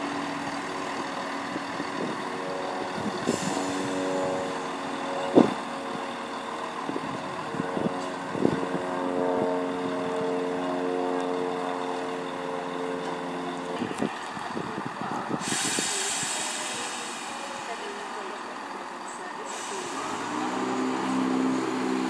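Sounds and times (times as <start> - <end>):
train traction equipment humming: 0.0 - 22.0.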